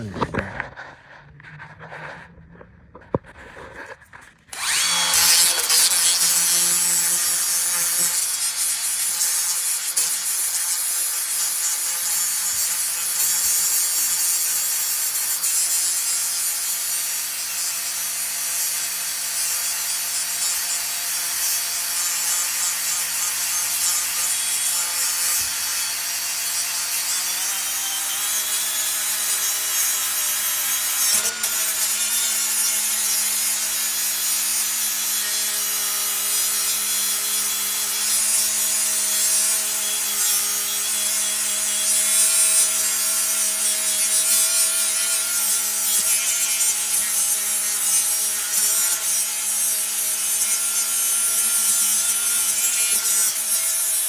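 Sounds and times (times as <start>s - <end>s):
power grinder grinding metal: 3.1s - 54.0s.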